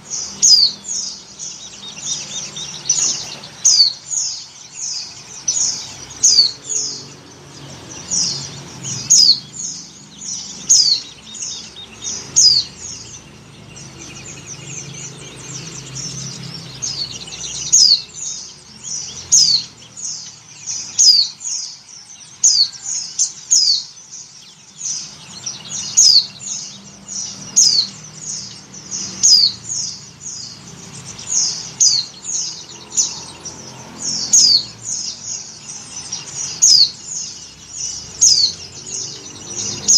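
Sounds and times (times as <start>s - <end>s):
bird chirping high: 0.0s - 39.9s.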